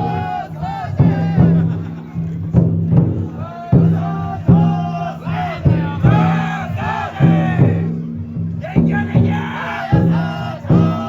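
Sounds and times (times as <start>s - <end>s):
loud chanted calls: 0.0s - 2.4s, 3.2s - 11.0s
big drum struck: 0.0s - 11.0s.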